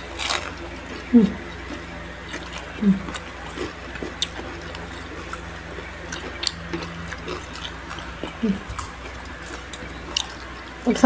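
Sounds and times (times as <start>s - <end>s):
people chewing crispy food: 0.0s - 11.0s.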